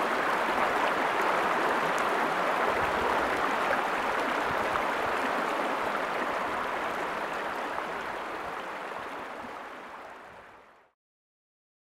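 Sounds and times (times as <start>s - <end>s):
river running over rocks: 0.0s - 10.2s.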